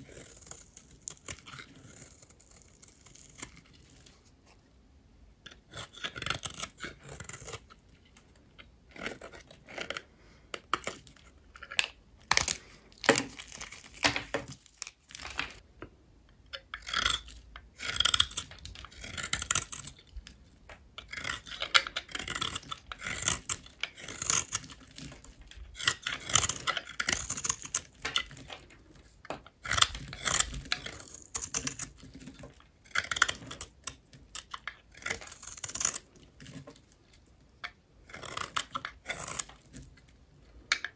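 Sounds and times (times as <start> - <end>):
blade cutting dry soap: 0.0 - 4.5, 5.4 - 15.7, 16.3 - 40.9.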